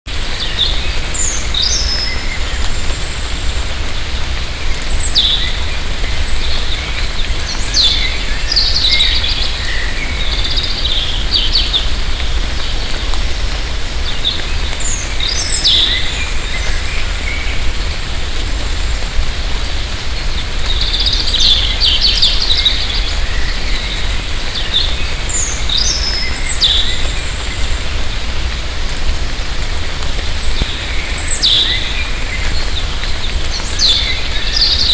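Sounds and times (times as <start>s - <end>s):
light rain falling: 0.1s - 34.9s
birds chirping: 0.3s - 28.2s, 30.2s - 34.9s.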